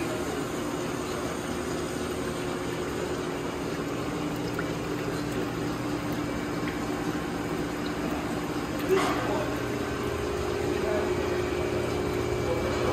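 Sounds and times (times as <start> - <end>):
shop machinery humming and whirring: 0.0 - 12.9.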